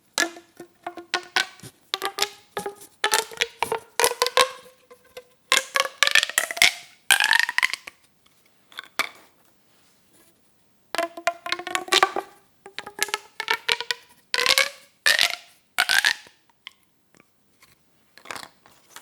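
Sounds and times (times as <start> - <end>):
plastic pop tubes crackling: 0.0 - 8.1, 10.9 - 17.3, 18.2 - 19.0.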